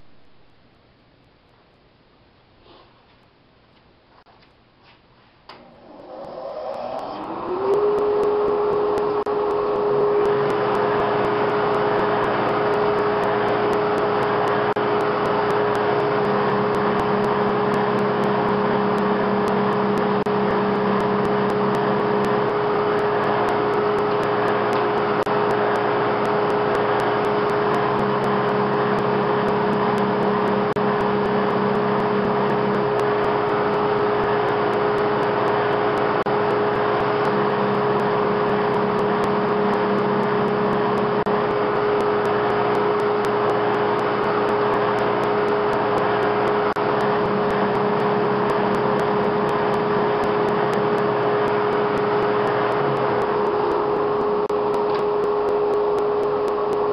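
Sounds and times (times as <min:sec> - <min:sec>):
drum sander whining: 0:05.5 - 0:56.9
dust collector running: 0:05.5 - 0:56.9
low drone: 0:05.5 - 0:56.9.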